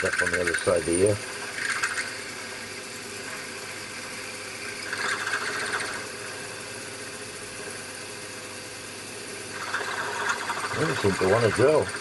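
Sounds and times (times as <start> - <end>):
milling machine spindle running: 0.0 - 12.0.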